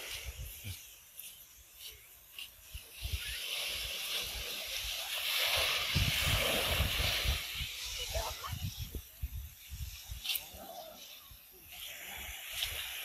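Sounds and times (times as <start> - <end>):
surf hissing on sandy beach: 0.0 - 13.0.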